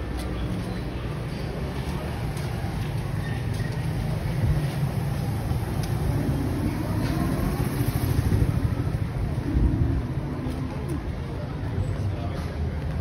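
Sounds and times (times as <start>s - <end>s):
faint voices: 0.0s - 13.0s
motor vehicle rumble: 0.0s - 13.0s.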